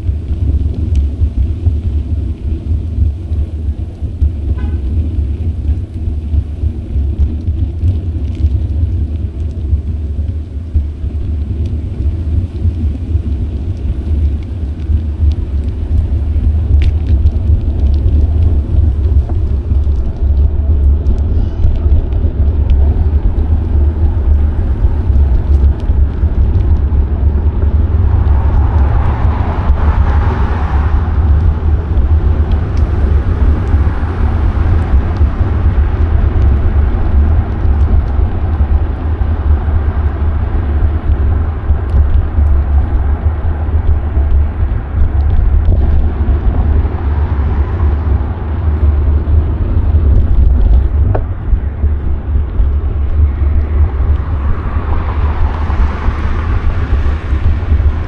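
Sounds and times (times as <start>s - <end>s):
road noise hiss: 0.0s - 58.0s
wind buffeting microphone: 0.0s - 58.0s.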